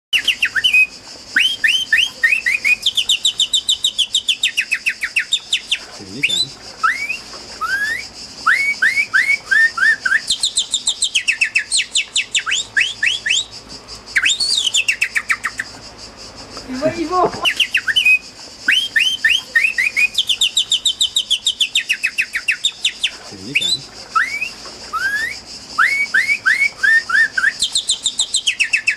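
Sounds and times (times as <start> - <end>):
bird song with whistles and trills: 0.1 - 15.8, 16.8 - 28.9
low wavering bird call: 0.2 - 15.8, 16.6 - 28.9.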